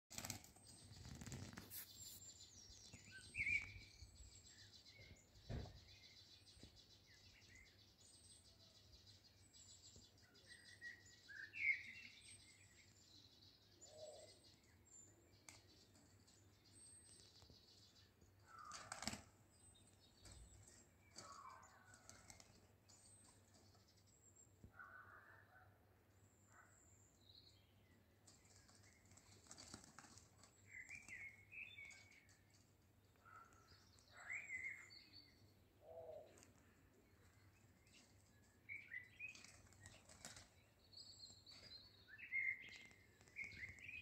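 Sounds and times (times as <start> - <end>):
birds chirping: 0.1 - 25.7, 26.4 - 44.0.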